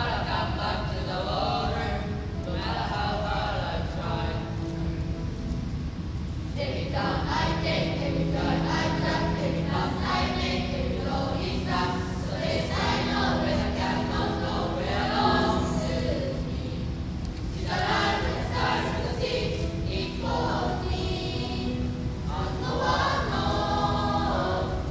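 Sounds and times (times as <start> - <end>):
choir singing in parts: 0.0 - 4.9, 6.5 - 24.9.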